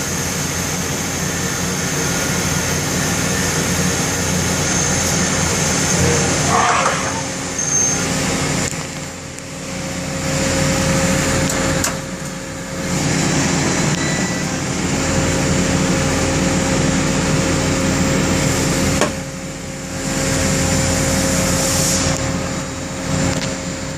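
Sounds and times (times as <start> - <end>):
lathe machine hum: 0.0 - 23.9.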